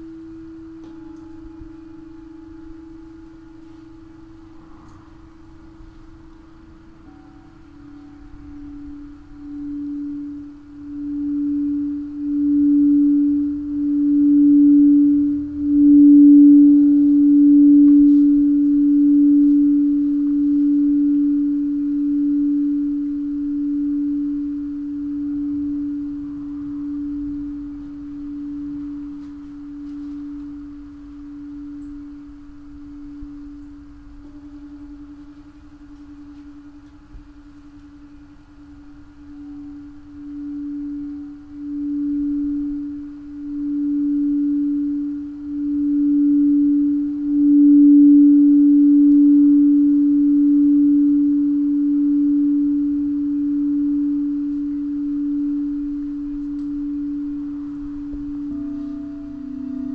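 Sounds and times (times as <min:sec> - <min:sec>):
singing bowl ringing: 0:00.0 - 0:59.9.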